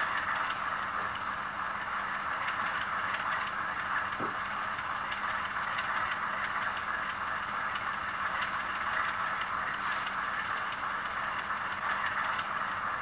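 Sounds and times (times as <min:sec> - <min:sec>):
diesel engine sound through small speaker: 0:00.0 - 0:13.0.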